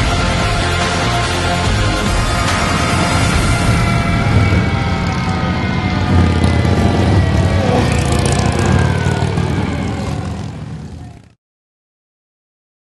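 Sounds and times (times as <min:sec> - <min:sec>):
motorcycle engines passing: 0:00.3 - 0:11.4.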